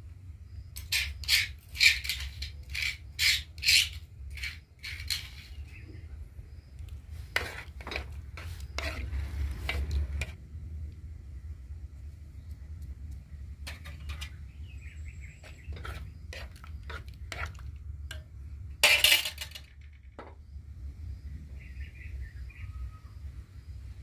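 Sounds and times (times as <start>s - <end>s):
low steady hum: 4.0s - 24.0s.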